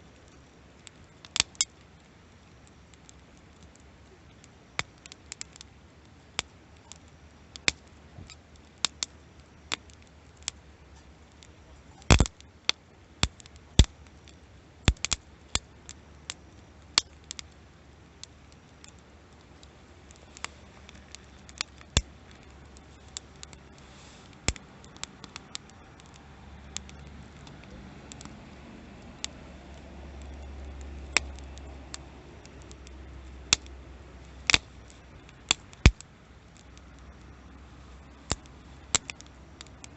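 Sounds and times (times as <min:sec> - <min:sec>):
faint low rumble: 0:00.0 - 0:39.9
wood fire crackling: 0:00.0 - 0:39.9.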